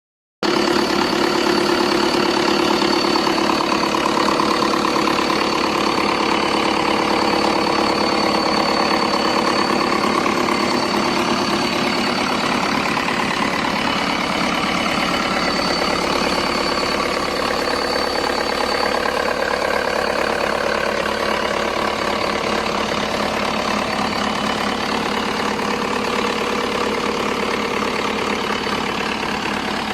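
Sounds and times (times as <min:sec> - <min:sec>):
car engine idling: 0:00.4 - 0:29.9
thin high whine: 0:00.5 - 0:29.9.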